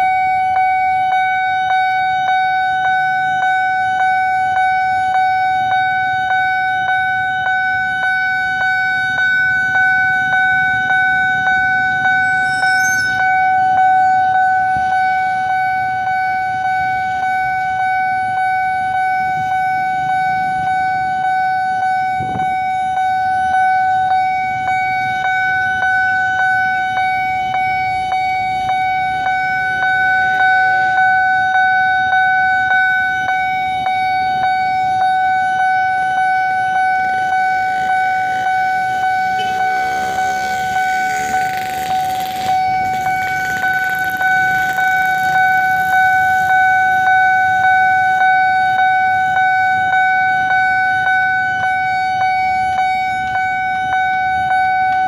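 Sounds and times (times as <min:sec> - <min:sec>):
faint road traffic: 0:00.0 - 0:55.0
level crossing alarm pulsing: 0:00.0 - 0:55.0.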